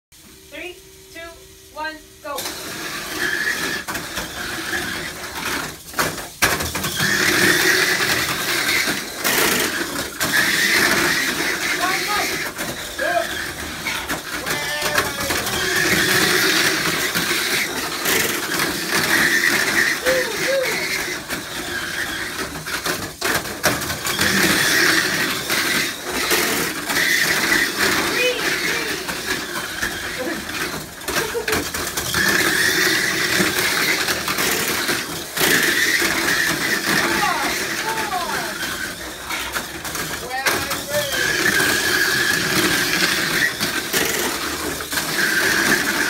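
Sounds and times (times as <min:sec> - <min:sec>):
toy car motors whining: 0:00.2 - 0:46.0.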